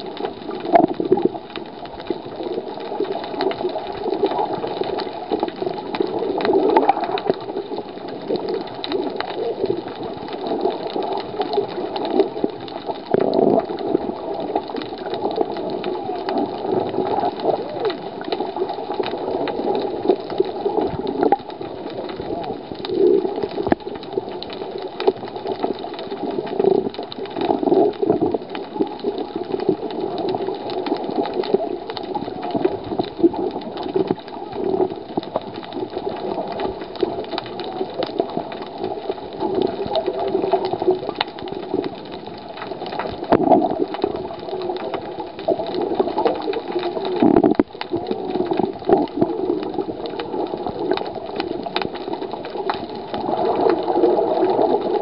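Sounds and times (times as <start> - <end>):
underwater clicks and knocks: 0.0 - 55.0
wavering underwater rush: 0.0 - 55.0.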